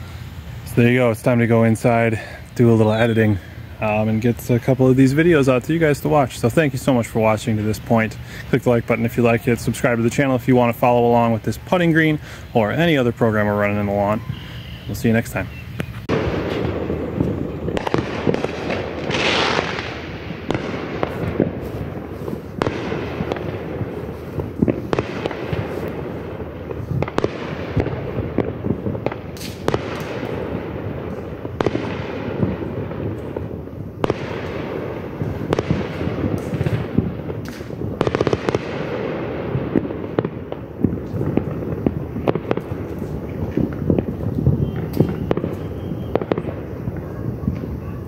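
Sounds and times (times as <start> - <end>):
firework hiss: 0.0 - 48.0
fireworks bangs and crackling: 0.0 - 48.0.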